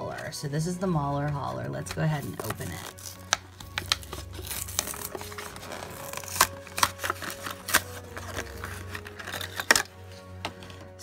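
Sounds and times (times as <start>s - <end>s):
plastic blister crinkling: 0.2s - 11.0s
cardboard tearing: 2.1s - 11.0s.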